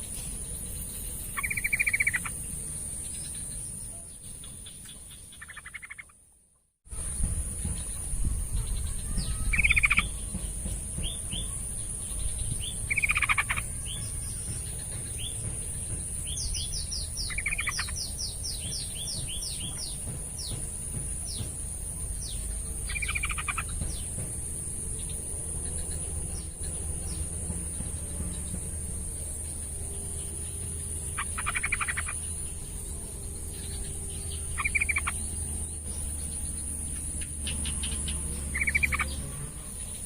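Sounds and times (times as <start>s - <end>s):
bulbul singing: 0.0s - 6.1s, 7.0s - 40.0s.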